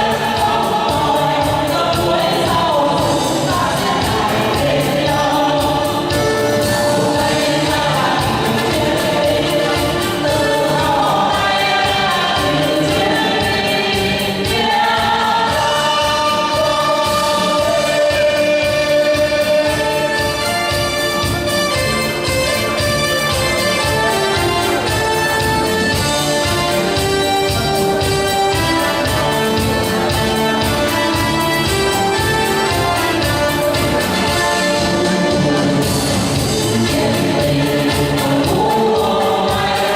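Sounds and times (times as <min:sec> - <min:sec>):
choir singing a march: 0:00.0 - 0:39.9
instrumental backing with steady beat: 0:00.0 - 0:39.9.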